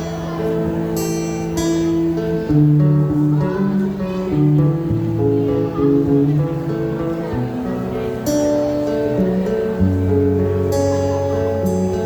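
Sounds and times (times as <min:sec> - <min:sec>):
guitar chords: 0:00.0 - 0:12.0.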